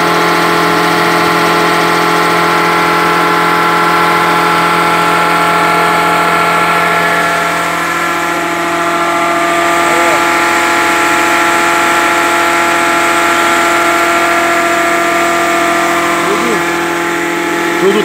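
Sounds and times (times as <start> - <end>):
air compressor humming: 0.0 - 18.0.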